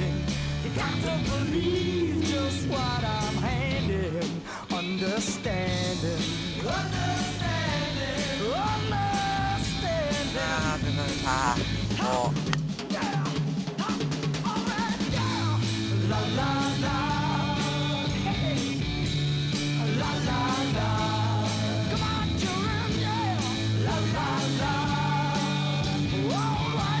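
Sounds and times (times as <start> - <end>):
person singing: 0.0 - 18.6, 19.8 - 27.0
rock and roll band music: 0.0 - 27.0.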